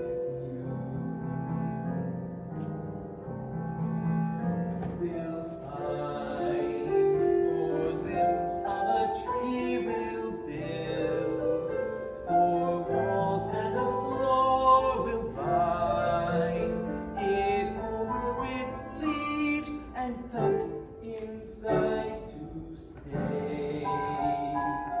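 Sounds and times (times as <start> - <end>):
piano accompaniment: 0.0 - 25.0.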